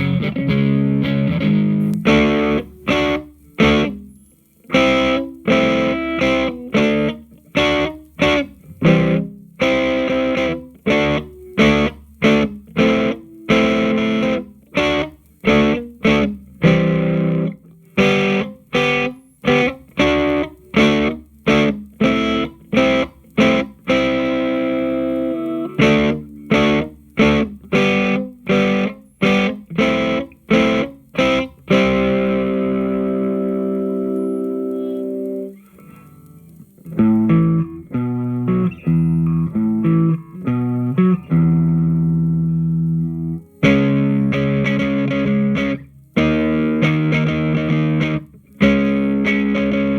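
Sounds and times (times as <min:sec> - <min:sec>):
electric guitar staccato chords: 0:00.0 - 0:49.9.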